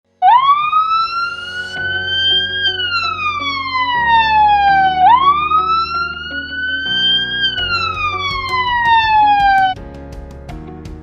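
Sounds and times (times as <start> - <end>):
background music: 0.1 - 11.0
wailing siren: 0.2 - 9.8.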